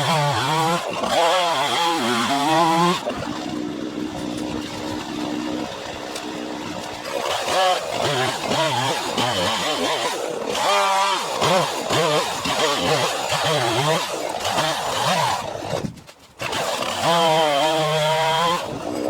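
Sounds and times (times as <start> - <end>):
chainsaw running: 0.0 - 19.0.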